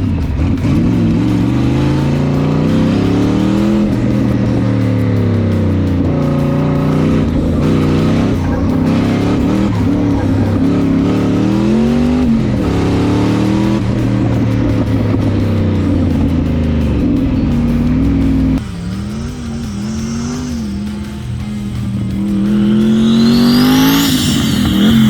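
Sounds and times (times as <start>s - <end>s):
car engine running hard: 0.0s - 25.0s.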